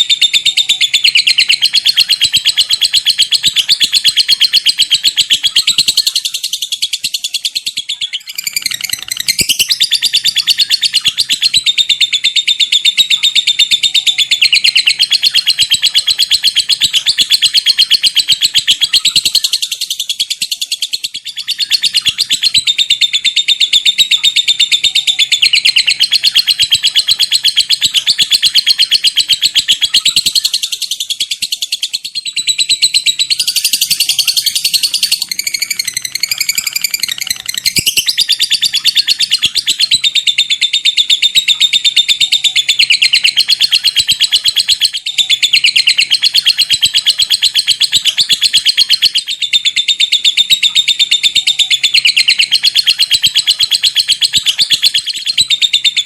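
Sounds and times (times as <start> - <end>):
lovebird chattering trill: 0.0 - 56.0.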